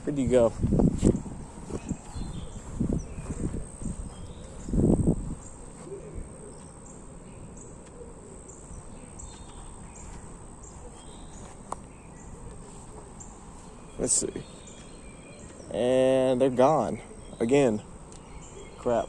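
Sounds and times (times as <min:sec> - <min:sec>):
high-pitched insect drone: 0:01.1 - 0:17.8.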